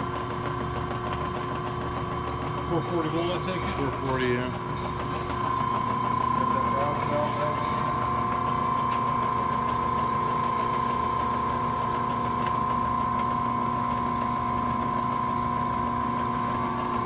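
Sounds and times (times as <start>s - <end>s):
high-pitched machine whine: 0.0s - 17.0s
press brake motor humming: 0.0s - 17.0s.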